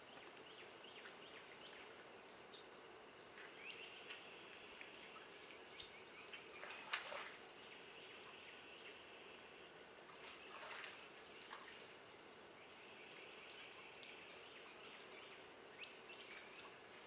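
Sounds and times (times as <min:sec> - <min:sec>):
birds and insects: 0:00.0 - 0:17.0
soft rush of water: 0:00.0 - 0:17.0.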